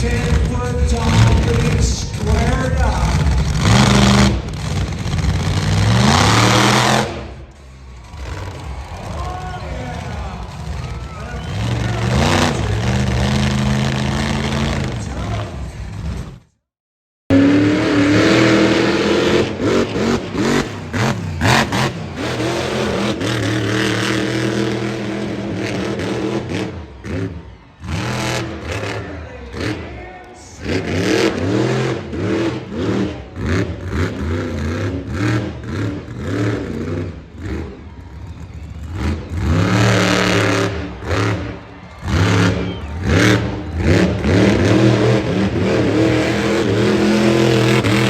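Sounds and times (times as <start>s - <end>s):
monster truck engine revving: 0.0s - 16.6s, 17.3s - 48.0s.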